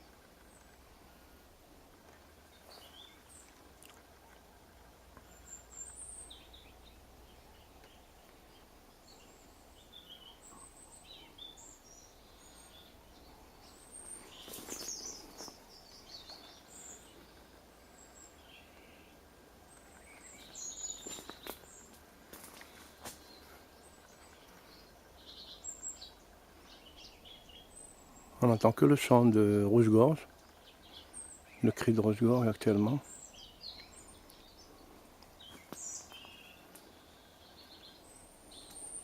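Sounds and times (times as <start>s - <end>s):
robin chirping: 4.2s - 22.0s, 23.2s - 39.0s.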